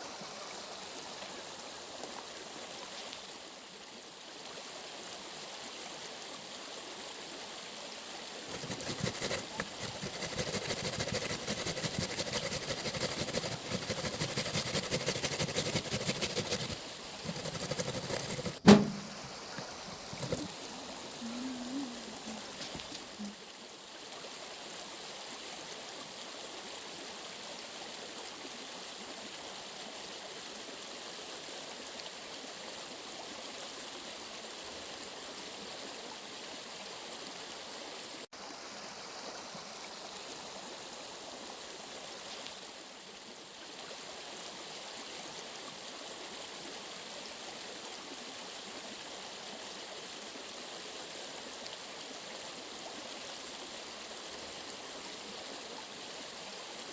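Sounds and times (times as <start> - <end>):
stream water rushing: 0.0 - 56.9.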